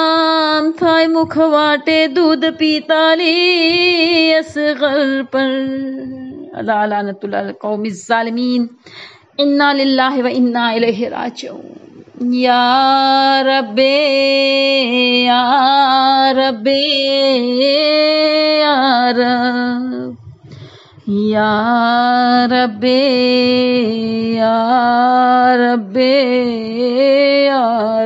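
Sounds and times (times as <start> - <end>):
woman chanting: 0.0 - 8.8, 9.4 - 28.0.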